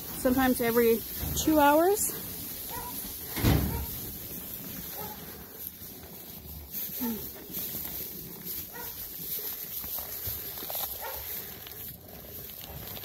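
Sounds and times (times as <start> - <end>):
rustling in straw: 0.0 - 13.0.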